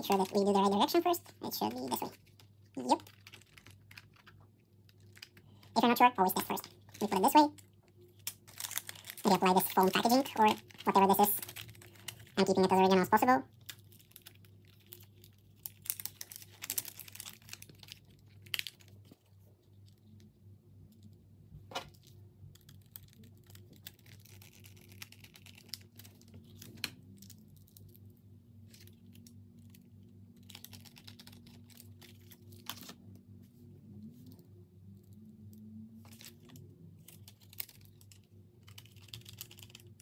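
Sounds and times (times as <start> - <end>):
foam wrap crinkling: 0.0 - 20.3, 21.9 - 33.0, 36.0 - 40.0.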